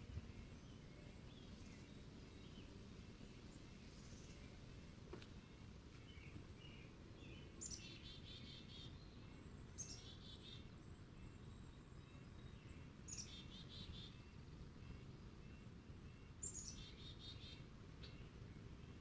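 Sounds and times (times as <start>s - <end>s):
faint low hum: 0.0s - 19.0s
songbird singing trills: 0.0s - 19.0s.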